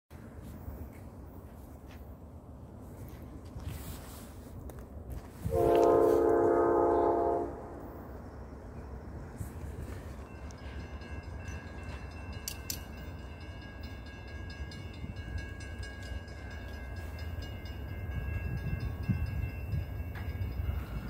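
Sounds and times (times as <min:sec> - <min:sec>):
distant freight train rumble: 0:00.1 - 0:21.0.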